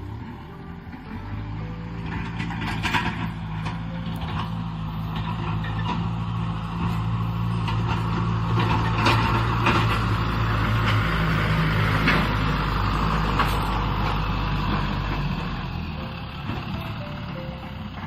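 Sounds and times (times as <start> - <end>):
tractor diesel engine running: 0.0 - 18.0
metallic clanks and rattles: 0.1 - 18.0.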